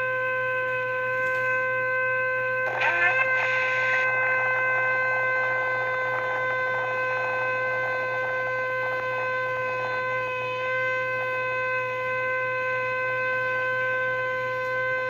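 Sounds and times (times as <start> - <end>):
shofar long held note: 0.0 - 15.0.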